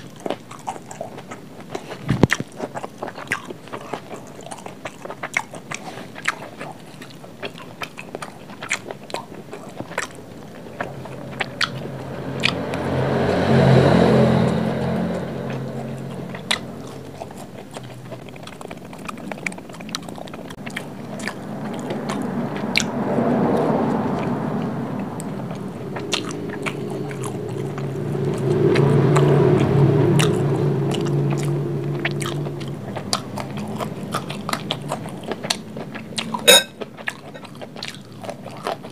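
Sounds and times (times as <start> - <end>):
wet mouth clicks: 0.0 - 13.5, 15.1 - 24.3, 25.2 - 38.9
chewing crisp food: 0.0 - 38.9.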